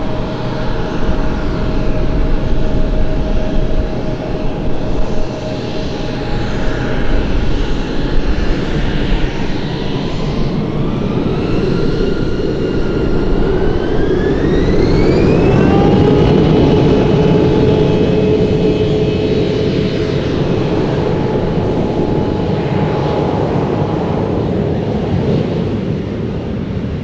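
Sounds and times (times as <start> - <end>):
loud rumble: 0.0 - 24.9
jet engines spooling up: 0.0 - 26.2.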